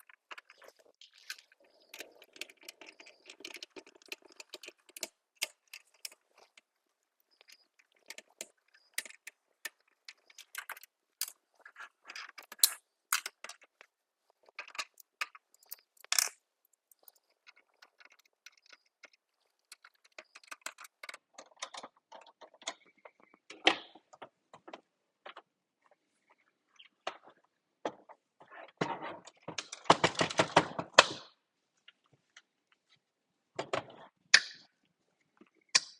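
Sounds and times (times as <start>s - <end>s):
plastic parts clicking and rattling: 0.0s - 25.5s, 26.9s - 31.3s.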